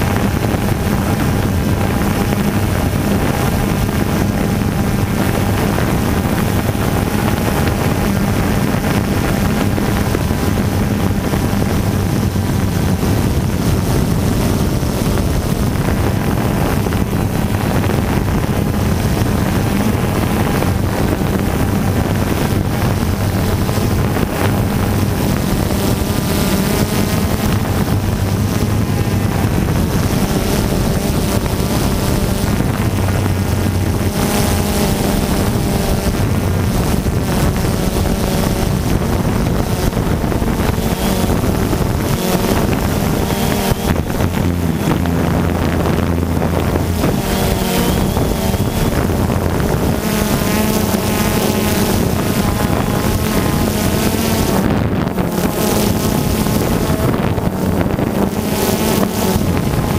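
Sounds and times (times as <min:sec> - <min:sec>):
drone motors and propellers whirring: 0:00.0 - 0:59.9
rushing air and wind: 0:00.0 - 0:59.9.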